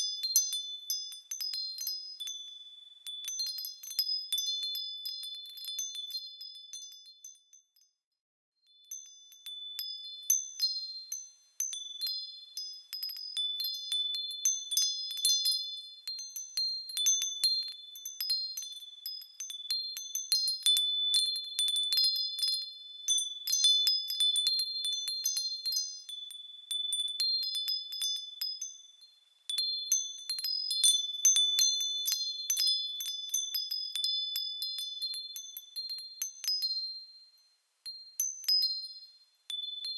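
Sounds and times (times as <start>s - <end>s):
small metal bells tinkling: 0.0s - 39.9s.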